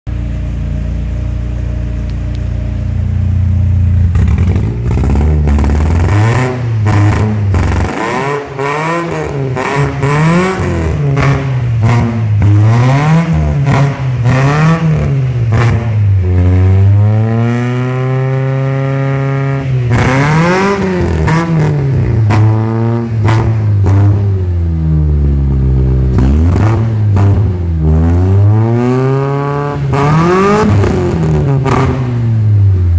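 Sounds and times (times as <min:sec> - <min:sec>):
car engine revving: 0:00.1 - 0:32.9.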